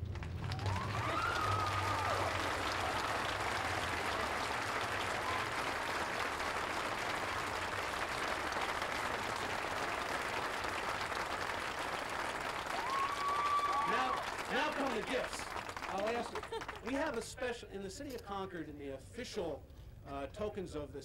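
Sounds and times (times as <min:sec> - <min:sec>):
crowd applauding: 0:00.0 - 0:17.2.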